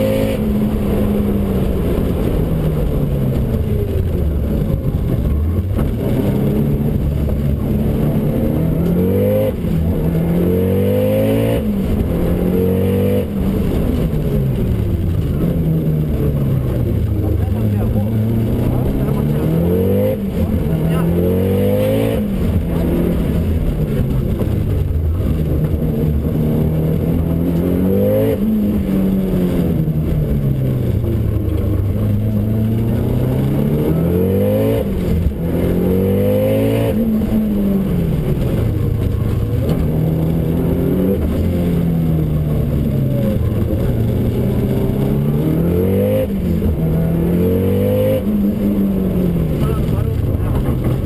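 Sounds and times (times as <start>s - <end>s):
turbocharged car engine revving: 0.0s - 51.0s.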